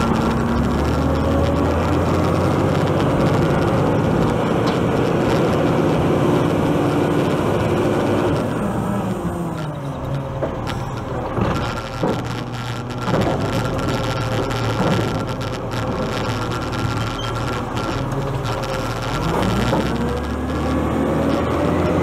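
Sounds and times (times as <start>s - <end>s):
garbage truck engine running: 0.0s - 22.0s
hydraulic whine: 0.0s - 22.0s.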